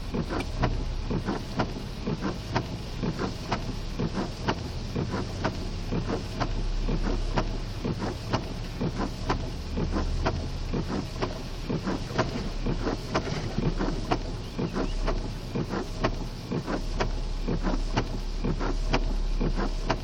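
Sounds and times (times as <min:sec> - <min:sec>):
car engine humming: 0:00.0 - 0:20.0
rain and water spattering on car: 0:00.0 - 0:20.0
windshield wipers stroking: 0:00.0 - 0:20.0.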